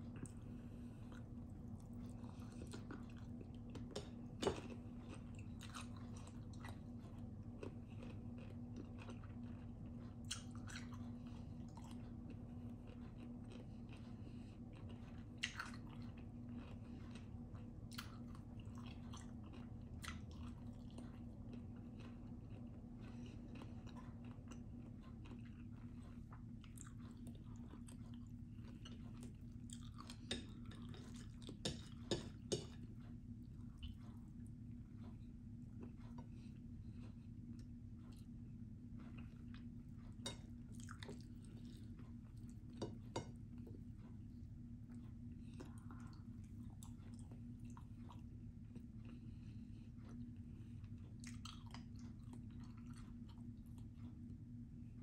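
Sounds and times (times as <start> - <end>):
person chewing and biting food: 0.0 - 54.2.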